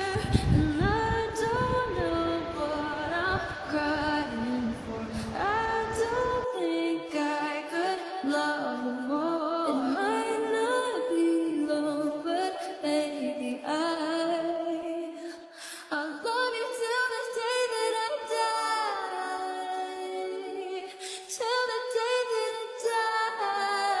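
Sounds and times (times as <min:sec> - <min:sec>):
a cappella vocal harmonies: 0:00.0 - 0:24.0.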